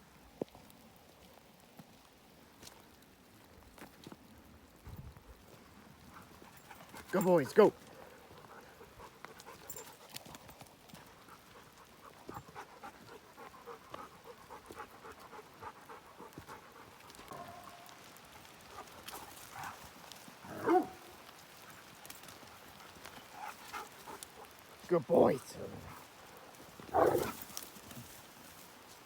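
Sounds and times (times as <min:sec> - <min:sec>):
paw steps and footsteps: 0:00.2 - 0:29.0
dogs panting: 0:05.4 - 0:28.7.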